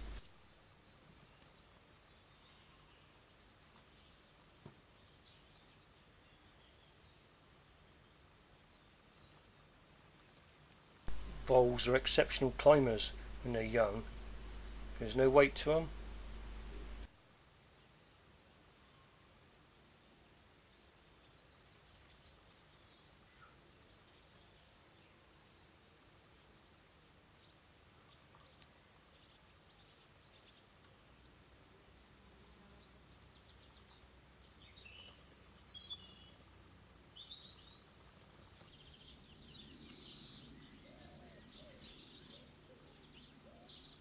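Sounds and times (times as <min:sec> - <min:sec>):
faint birdsong chirps: 0:00.0 - 0:44.0.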